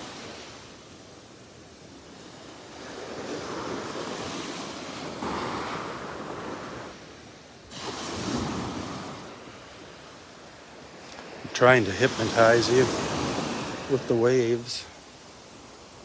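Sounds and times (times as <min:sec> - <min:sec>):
small waves washing up beach: 0:00.0 - 0:16.0.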